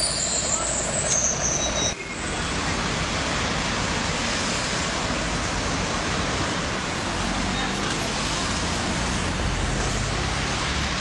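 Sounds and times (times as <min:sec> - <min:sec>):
road traffic rushing: 0:00.0 - 0:11.0
street sound: 0:00.0 - 0:11.0.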